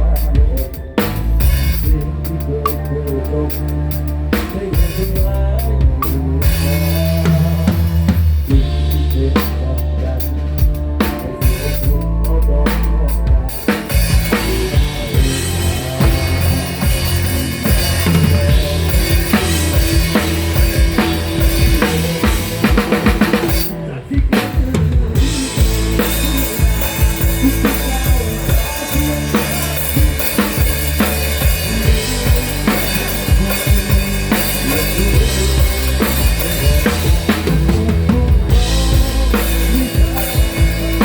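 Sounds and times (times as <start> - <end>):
bass notes: 0.0 - 41.0
rock drum kit: 0.0 - 41.0.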